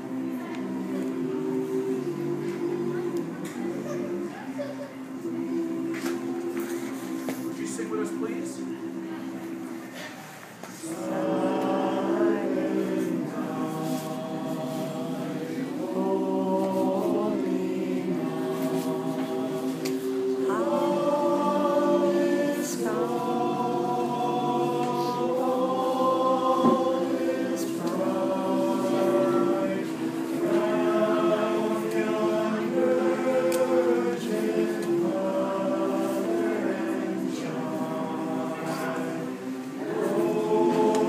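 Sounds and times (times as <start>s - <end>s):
men's chorus singing a cappella: 0.0s - 9.8s, 10.7s - 41.0s.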